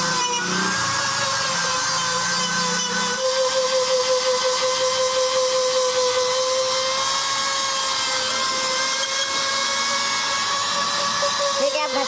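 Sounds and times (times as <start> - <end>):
rotary tool high-pitched whine: 0.0 - 12.0.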